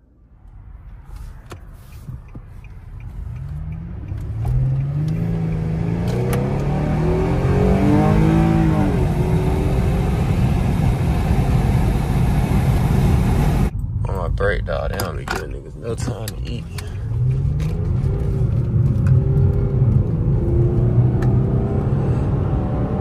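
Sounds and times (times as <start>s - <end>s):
road and tyre noise: 0.0s - 23.0s
car engine accelerating: 0.5s - 23.0s.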